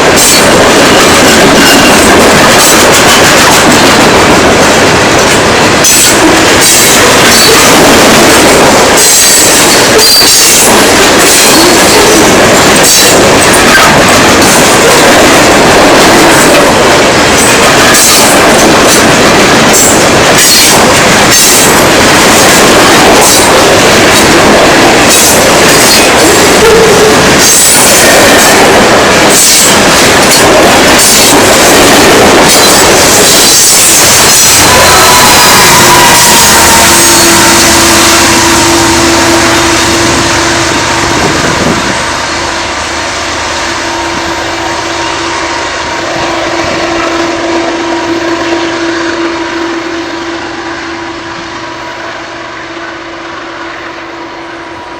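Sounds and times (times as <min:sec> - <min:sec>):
train wheels on rails: 0:00.0 - 0:54.9.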